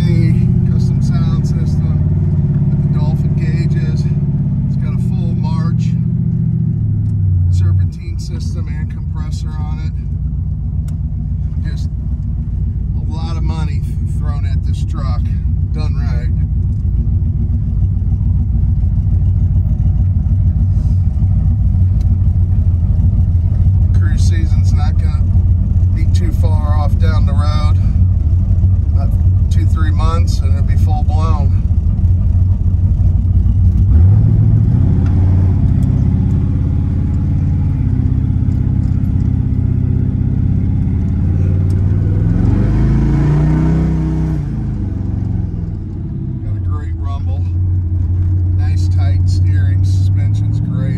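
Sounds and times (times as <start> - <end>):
engine rumbling inside cab: 0.0 - 50.9.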